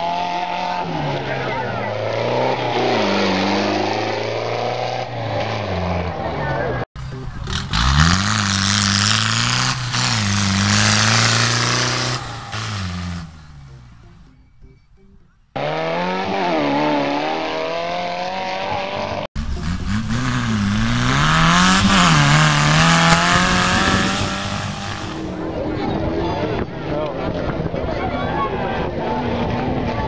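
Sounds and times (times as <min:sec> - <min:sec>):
small tractor engines revving: 0:00.0 - 0:26.2.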